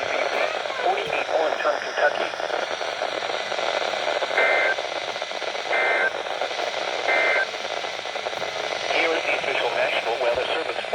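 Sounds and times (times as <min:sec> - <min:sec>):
radio hiss: 0:00.0 - 0:10.9.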